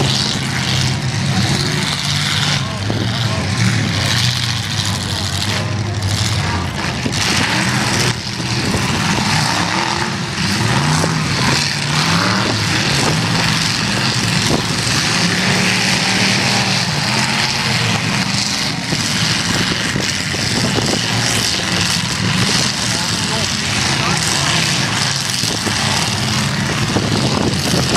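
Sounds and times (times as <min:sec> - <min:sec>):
car engines revving: 0:00.0 - 0:27.9
continuous noise: 0:00.0 - 0:27.9.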